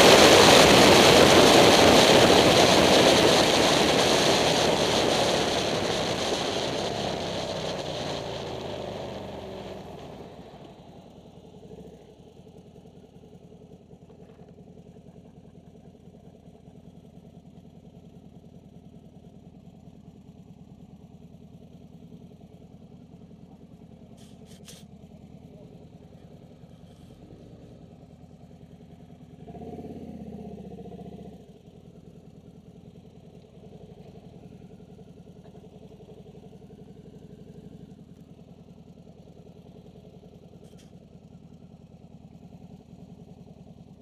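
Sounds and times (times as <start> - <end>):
motorcycle engine idling: 0.0 - 44.0
motorcycle engine slowing: 0.0 - 44.0.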